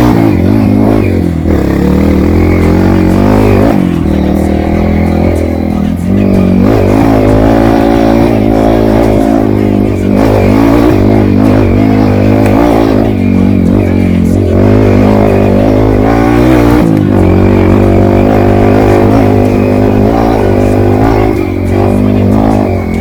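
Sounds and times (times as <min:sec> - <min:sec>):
motorcycle engine revving: 0:00.0 - 0:23.0
steady low drone: 0:00.0 - 0:23.0.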